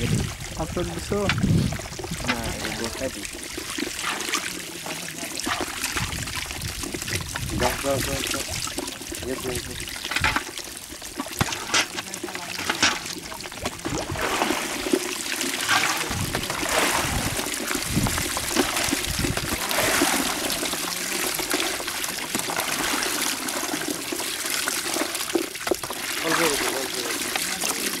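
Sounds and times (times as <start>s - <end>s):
water splashing: 0.0s - 28.0s
water trickling down a chute: 0.0s - 28.0s.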